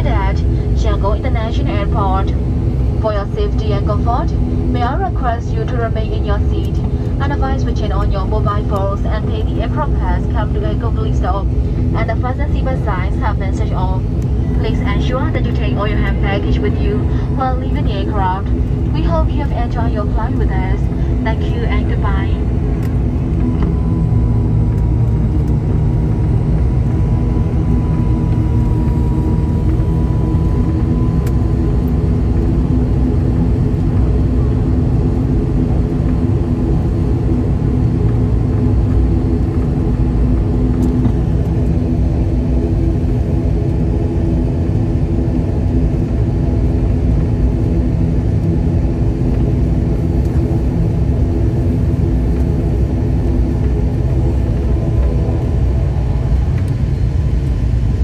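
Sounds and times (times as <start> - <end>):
turboprop engines droning: 0.0 - 58.0.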